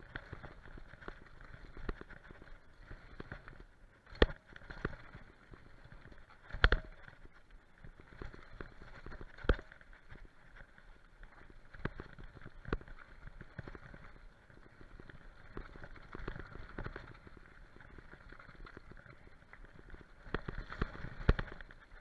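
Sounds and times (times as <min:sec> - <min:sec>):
bike knocking and rattling: 0:00.0 - 0:22.0
bike tyres rushing on dirt: 0:00.0 - 0:22.0.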